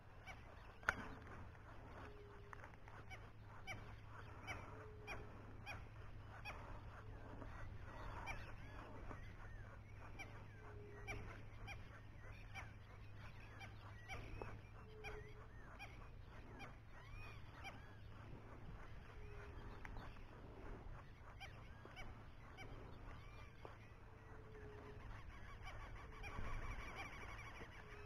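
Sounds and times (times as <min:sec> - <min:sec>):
birds chirping: 0:00.0 - 0:28.0
steady low hum: 0:00.0 - 0:28.0.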